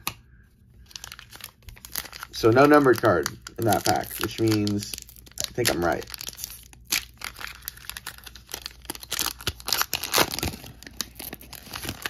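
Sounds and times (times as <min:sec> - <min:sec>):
foil wrapper tearing and crinkling: 0:00.9 - 0:12.0.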